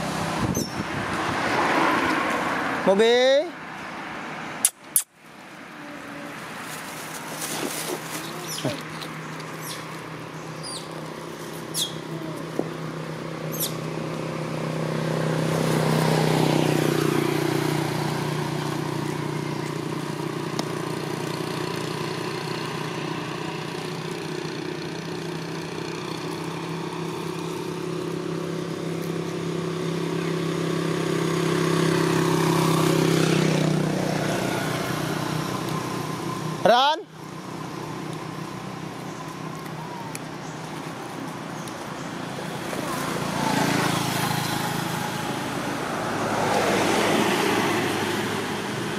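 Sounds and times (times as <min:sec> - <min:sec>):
vehicle engine running: 0:05.7 - 0:48.9.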